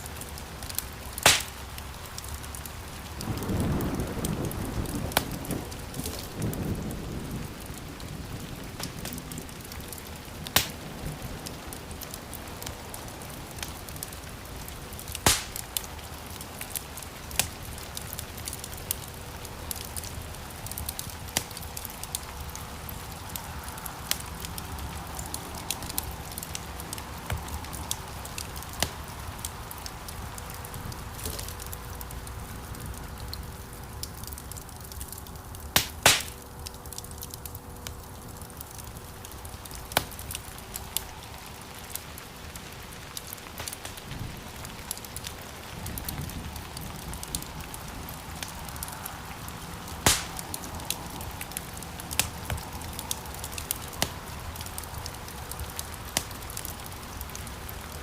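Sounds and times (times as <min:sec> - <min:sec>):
wood fire pops and snaps: 0:00.0 - 0:58.0.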